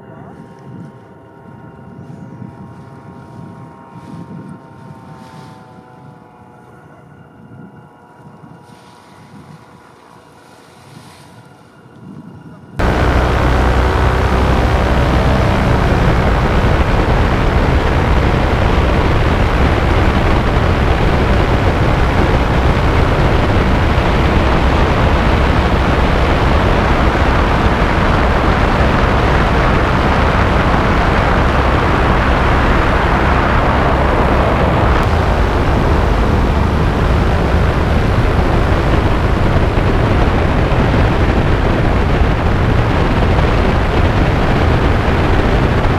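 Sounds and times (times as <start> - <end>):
paramotor engine drone: 0.0 - 12.1, 12.7 - 45.9.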